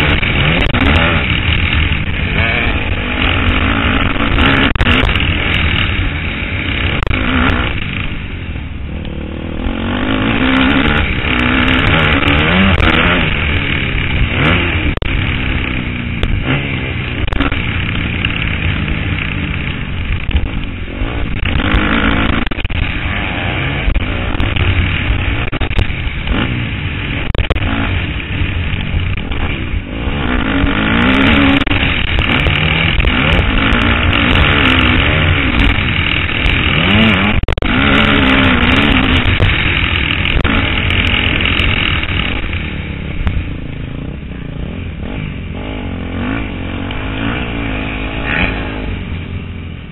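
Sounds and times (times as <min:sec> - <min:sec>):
low wind rumble: 0:00.0 - 0:49.9
motocross engine revving: 0:00.0 - 0:49.9.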